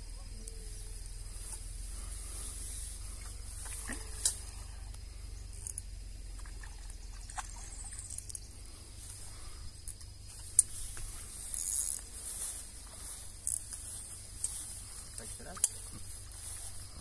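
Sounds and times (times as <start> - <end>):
steady high hiss: 0.0 - 6.4, 7.8 - 17.0.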